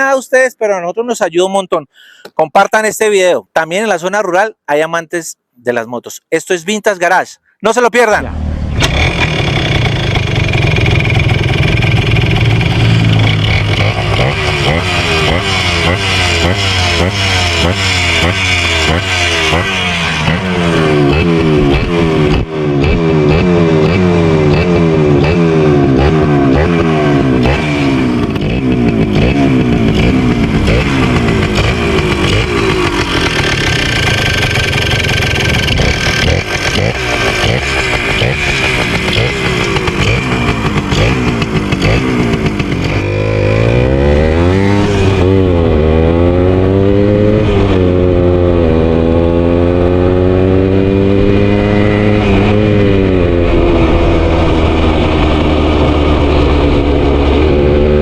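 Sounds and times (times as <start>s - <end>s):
motorcycle engine revving: 8.2s - 58.0s.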